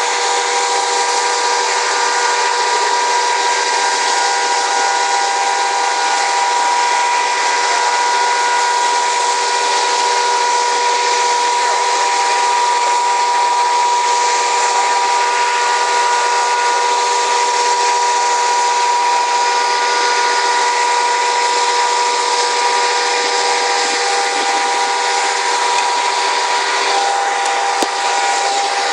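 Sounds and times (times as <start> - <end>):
high-pressure hose hiss: 0.0 - 28.9
water pump whine: 0.0 - 28.9.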